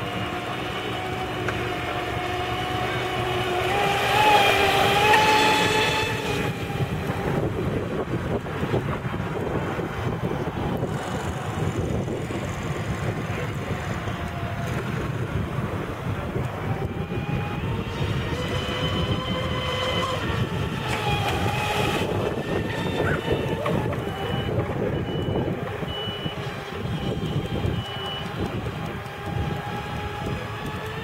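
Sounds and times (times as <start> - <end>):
model boat motor whine: 0.0 - 31.0
wind rumble on microphone: 0.0 - 31.0.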